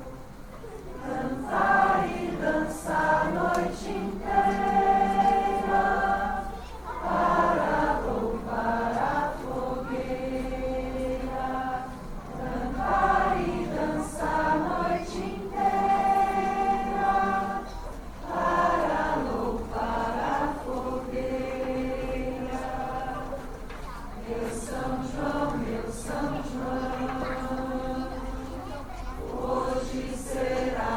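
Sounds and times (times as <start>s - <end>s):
group of voices singing: 0.9s - 30.9s.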